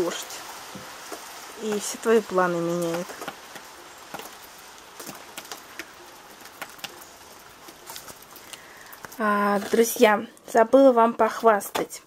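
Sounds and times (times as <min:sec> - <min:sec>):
raindrops pattering: 0:00.0 - 0:12.0
soft steady hiss: 0:00.0 - 0:12.0.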